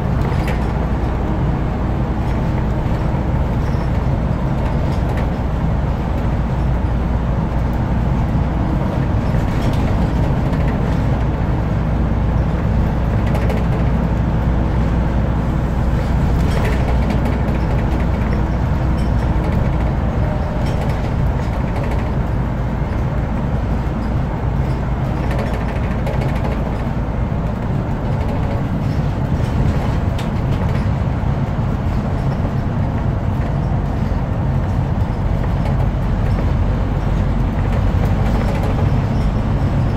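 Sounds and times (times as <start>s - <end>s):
bus diesel engine drone: 0.0s - 39.9s
road and tyre noise: 0.0s - 39.9s.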